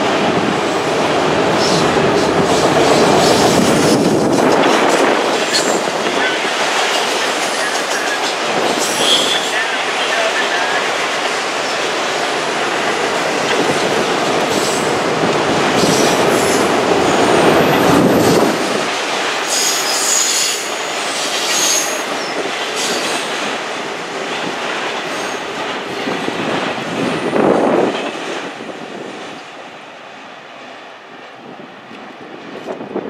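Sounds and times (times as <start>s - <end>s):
train wheels rumbling and clattering: 0.0s - 33.0s.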